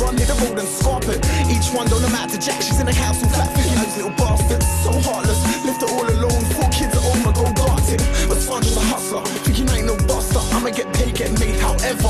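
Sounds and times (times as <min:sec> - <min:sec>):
hip hop music with heavy bass: 0:00.0 - 0:12.0.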